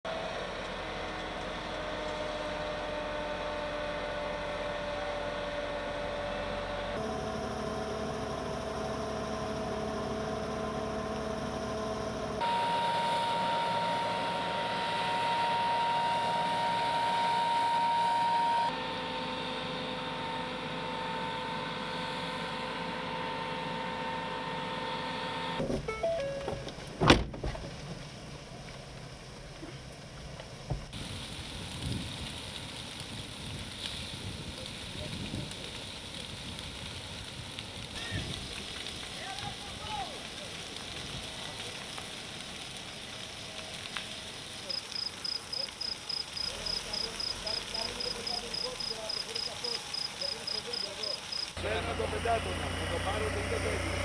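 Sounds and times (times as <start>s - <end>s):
engines and water pumps humming: 0.1s - 54.0s
water cannon whine: 0.1s - 54.0s.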